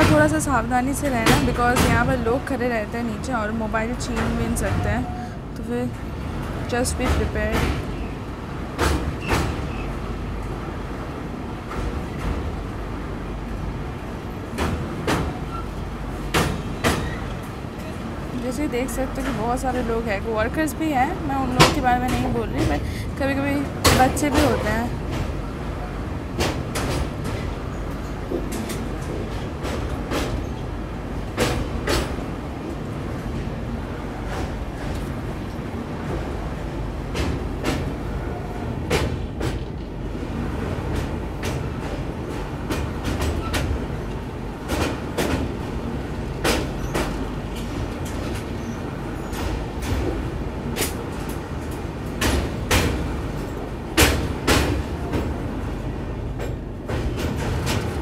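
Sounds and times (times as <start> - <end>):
train low rumble: 0.0 - 58.0
wheels clacking over rail joints: 5.8 - 58.0.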